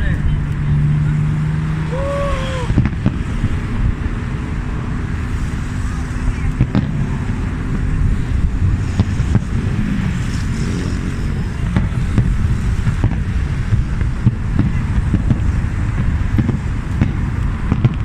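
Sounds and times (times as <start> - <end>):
low rumble: 0.0 - 18.0
fireworks bangs: 1.9 - 18.0.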